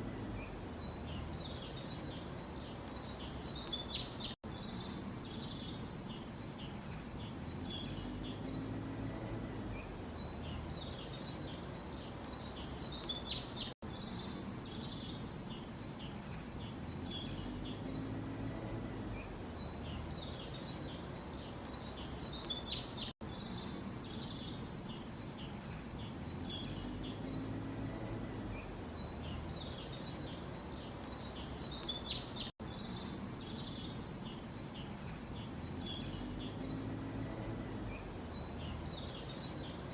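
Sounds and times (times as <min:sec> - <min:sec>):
low background hiss: 0:00.0 - 0:39.9
small birds chirping: 0:00.0 - 0:39.9.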